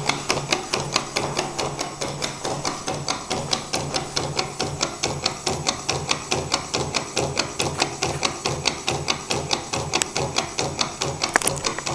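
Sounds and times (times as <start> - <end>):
engine mechanism clicking: 0.0 - 11.9.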